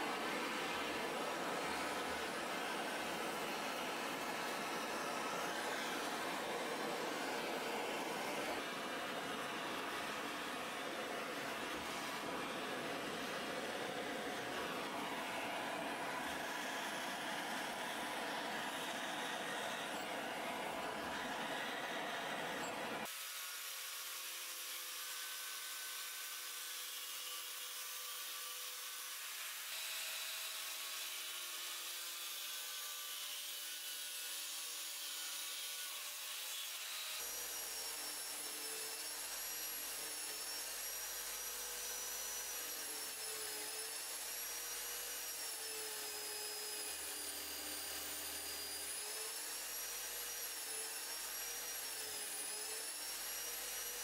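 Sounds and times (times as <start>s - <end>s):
power grinder grinding steel: 0.0s - 54.0s.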